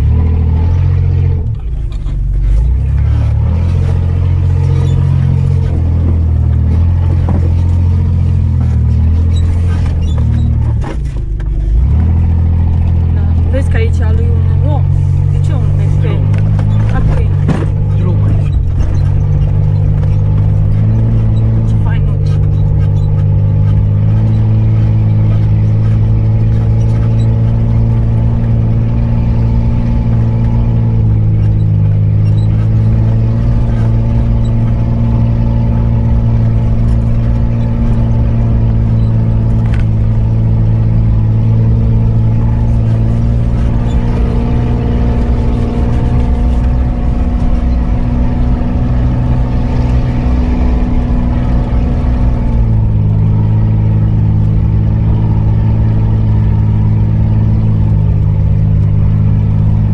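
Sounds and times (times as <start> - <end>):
car engine running at low speed: 0.0 - 59.9.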